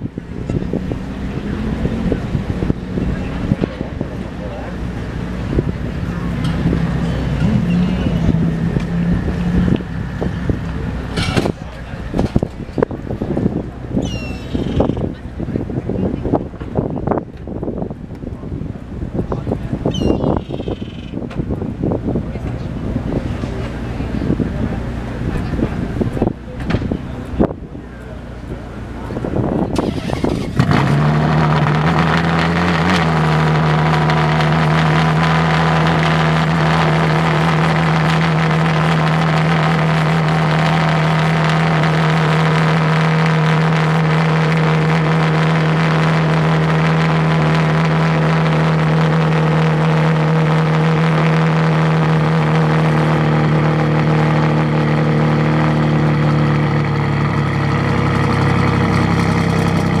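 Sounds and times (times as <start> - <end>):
sports car engine idling: 0.0 - 60.0.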